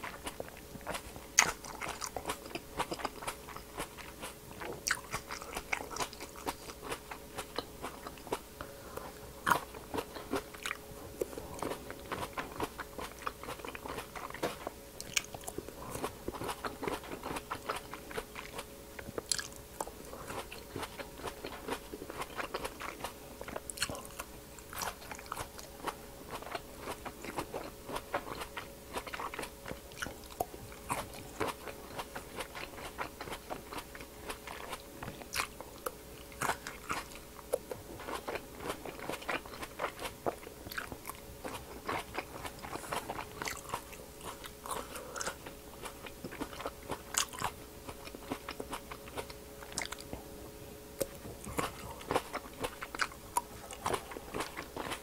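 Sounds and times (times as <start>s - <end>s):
crunchy chewing of grapes: 0.0s - 55.0s.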